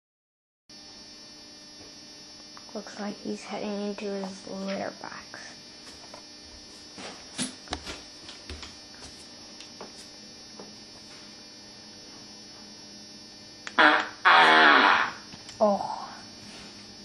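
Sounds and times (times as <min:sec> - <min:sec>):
low electrical hum: 0:00.7 - 0:17.0.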